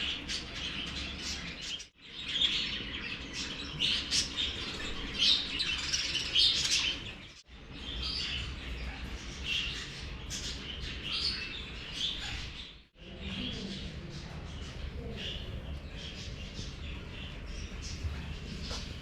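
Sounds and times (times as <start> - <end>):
many birds chirping: 0.0 - 19.0.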